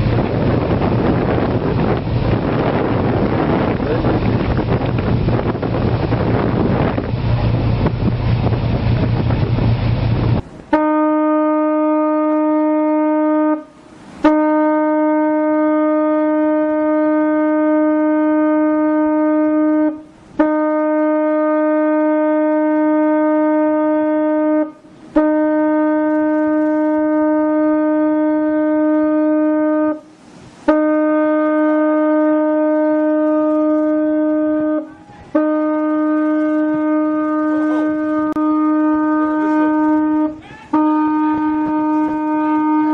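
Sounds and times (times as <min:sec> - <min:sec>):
ship's horn long blasts: 0:00.0 - 0:42.9
wind and sea rushing: 0:00.0 - 0:42.9.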